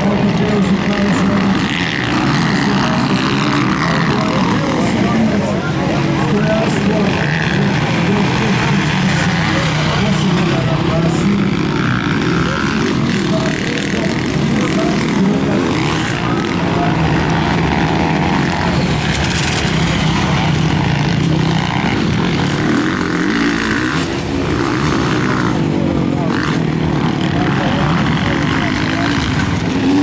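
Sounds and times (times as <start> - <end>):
motorcycle engines revving: 0.0 - 30.0
people talking: 0.0 - 30.0.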